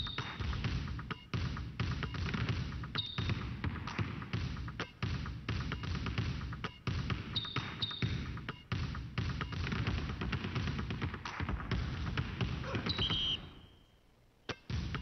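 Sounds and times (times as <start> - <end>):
music with thumping bass beat: 0.0 - 13.3, 14.5 - 15.0.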